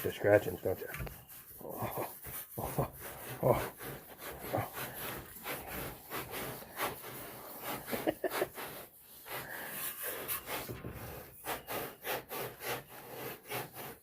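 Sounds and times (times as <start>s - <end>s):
pig scraping against rough surface: 0.0s - 14.0s.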